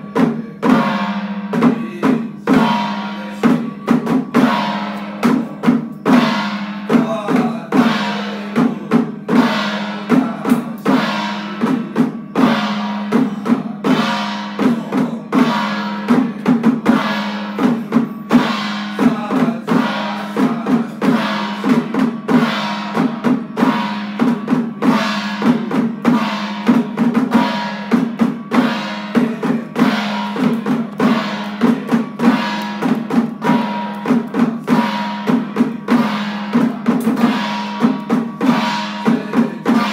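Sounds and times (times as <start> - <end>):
drums with ringing metallic tail: 0.0 - 39.9.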